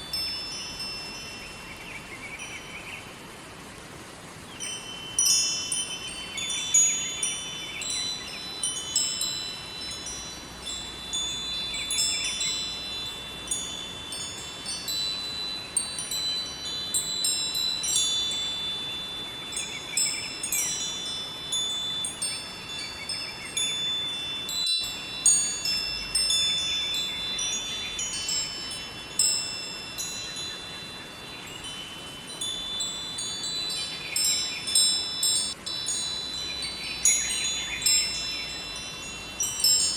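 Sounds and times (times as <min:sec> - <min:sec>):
wind chimes ringing: 0:00.0 - 0:02.9, 0:04.4 - 0:39.9
river water flowing: 0:00.0 - 0:39.9.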